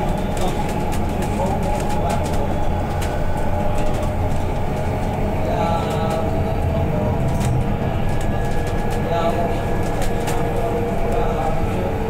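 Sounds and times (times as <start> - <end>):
clicks and rattles from bus body: 0.0 - 12.0
tyres and road rumble: 0.0 - 12.0.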